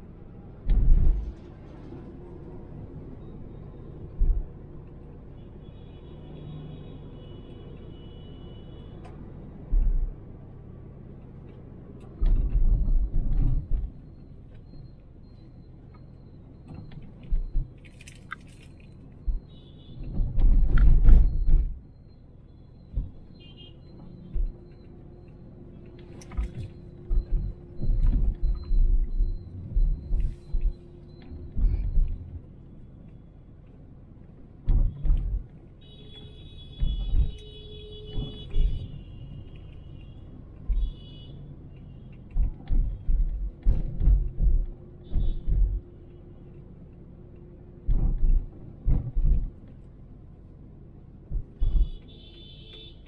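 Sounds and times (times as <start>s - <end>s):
car road noise rumble: 0.0s - 53.0s.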